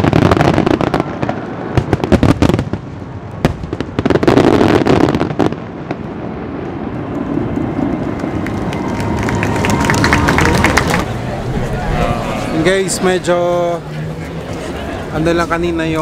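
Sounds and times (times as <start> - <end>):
firework bangs and crackles: 0.0 - 13.2.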